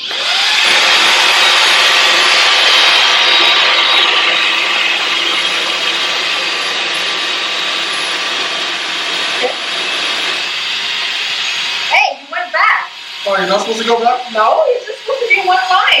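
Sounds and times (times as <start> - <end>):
stick vacuums whirring: 0.0 - 16.0.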